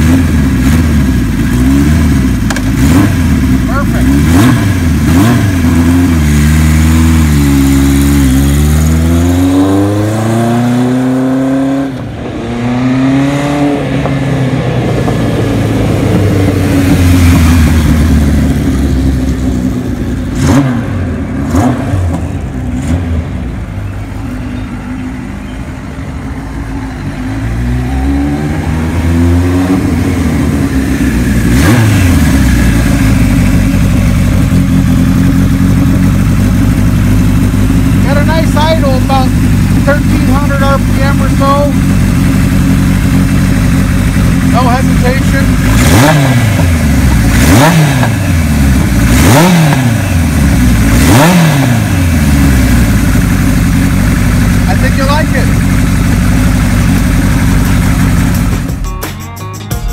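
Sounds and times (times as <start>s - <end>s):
motorcycle engine revving: 0.0s - 58.8s.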